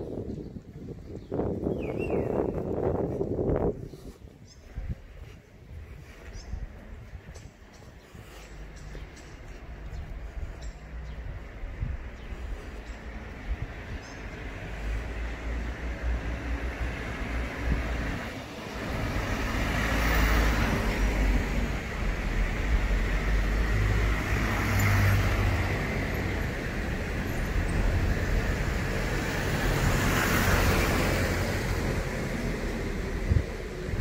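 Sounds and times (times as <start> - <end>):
cars passing on street: 0.0 - 34.0.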